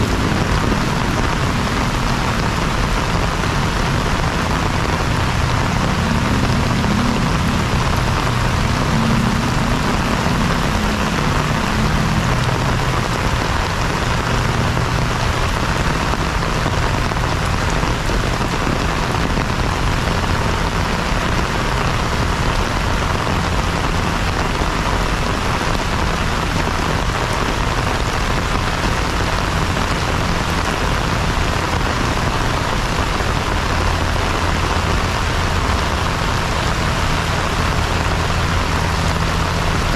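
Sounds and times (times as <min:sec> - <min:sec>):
heavy rain on pavement: 0:00.0 - 0:39.9
low rumble: 0:00.0 - 0:39.9.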